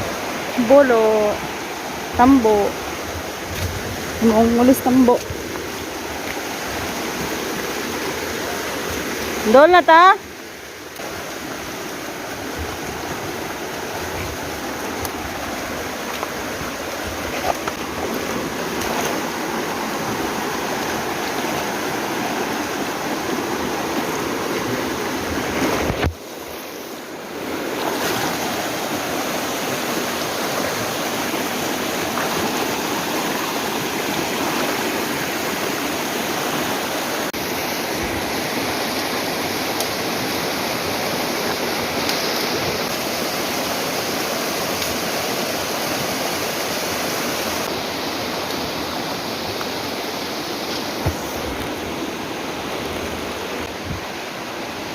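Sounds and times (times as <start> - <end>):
river water rushing over rocks: 0.0 - 54.9.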